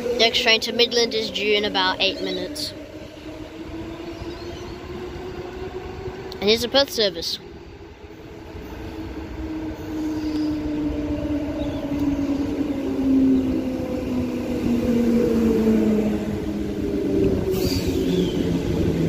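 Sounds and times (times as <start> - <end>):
electric train traction motors whining: 0.0 - 19.0.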